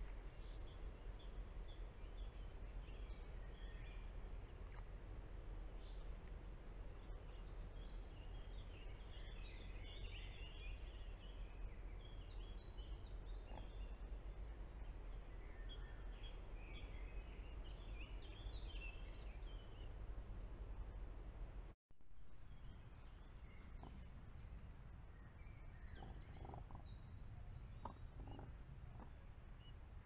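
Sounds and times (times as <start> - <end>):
low camera noise rumble: 0.0 - 30.0
small birds singing: 0.1 - 4.8, 6.9 - 20.0, 22.5 - 29.9.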